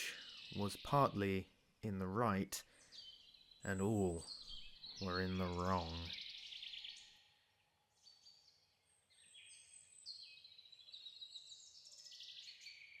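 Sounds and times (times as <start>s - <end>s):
birds whistling and trilling: 0.0s - 1.2s, 2.6s - 13.0s.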